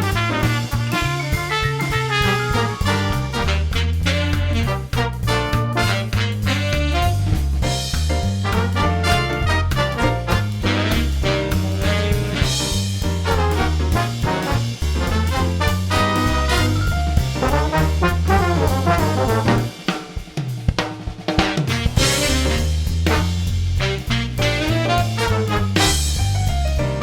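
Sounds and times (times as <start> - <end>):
upbeat swing music: 0.0 - 27.0.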